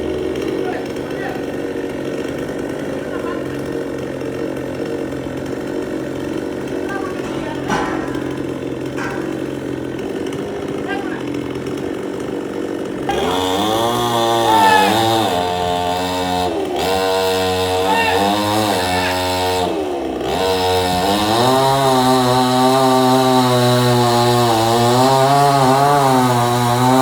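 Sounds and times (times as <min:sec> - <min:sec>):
two-stroke chainsaw engine running: 0:00.0 - 0:27.0.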